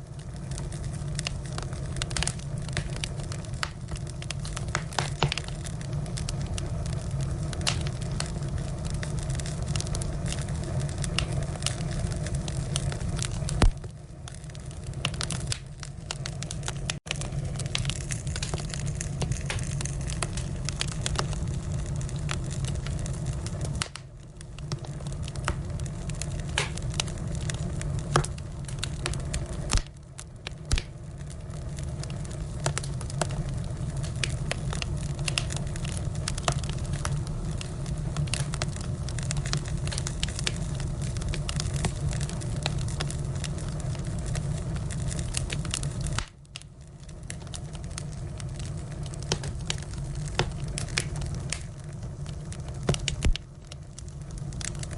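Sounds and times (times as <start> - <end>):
firewood crackling and popping: 0.0 - 54.9
flame rumble: 0.0 - 54.9.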